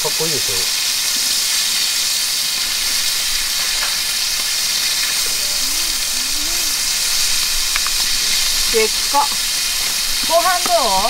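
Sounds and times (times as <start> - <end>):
meat sizzling in a hot pan: 0.0 - 11.0
pressure lantern hissing: 0.0 - 11.0.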